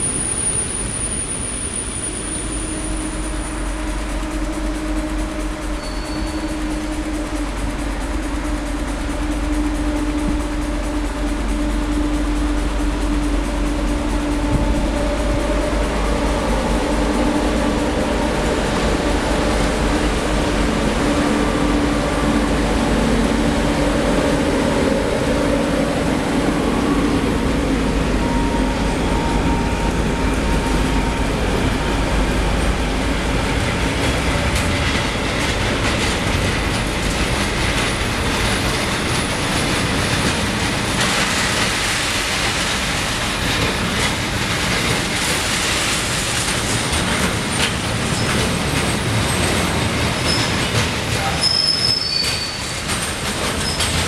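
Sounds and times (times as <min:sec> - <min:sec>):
diesel locomotive engine: 0:00.0 - 0:54.0
train wheel squeal: 0:00.0 - 0:54.0
train wheels clattering over rail joints: 0:02.1 - 0:54.0.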